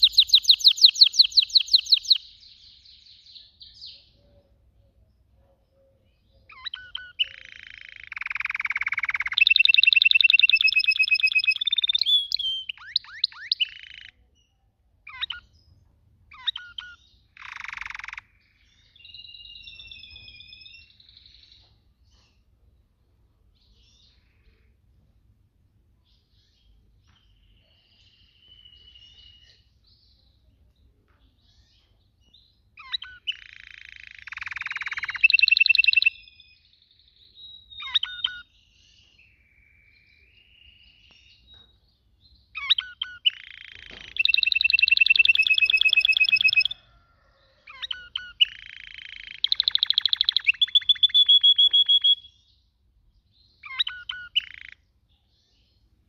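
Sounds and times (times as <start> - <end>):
canary singing trills: 0.0 - 22.6, 26.1 - 30.6, 31.3 - 56.0.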